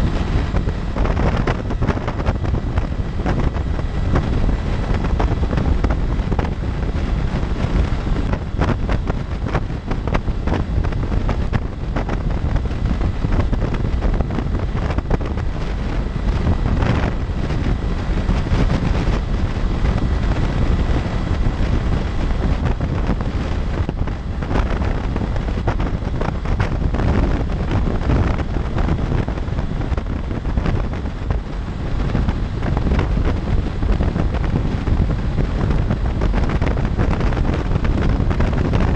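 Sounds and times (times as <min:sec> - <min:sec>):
motorcycle engine running: 0:00.0 - 0:38.9
tyres on road: 0:00.0 - 0:38.9
wind buffeting microphone: 0:00.0 - 0:38.9.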